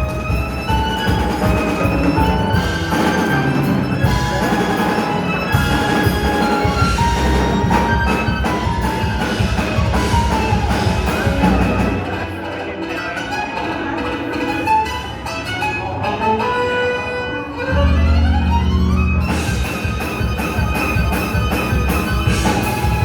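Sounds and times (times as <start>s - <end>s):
drums: 0.0s - 14.7s, 17.9s - 23.0s.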